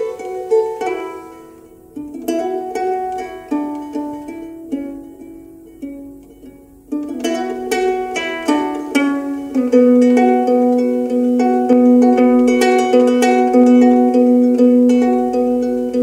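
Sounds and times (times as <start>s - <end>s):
fingerstyle ukulele: 0.0s - 16.0s.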